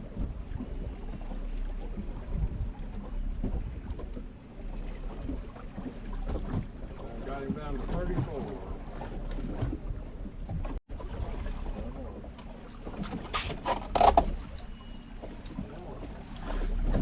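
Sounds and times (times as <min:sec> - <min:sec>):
waves against boat hull: 0:00.0 - 0:17.0.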